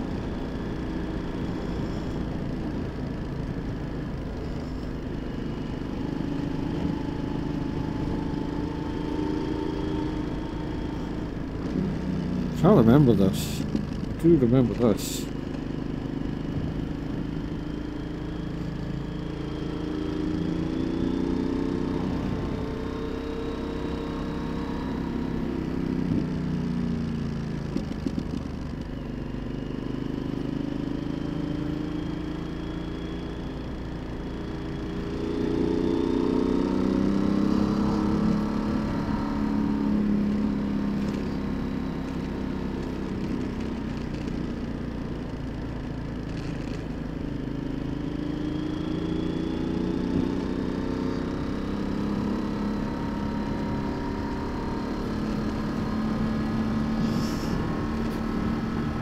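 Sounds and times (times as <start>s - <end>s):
motorcycle engine running: 0.0s - 59.0s
road noise rush: 0.0s - 59.0s.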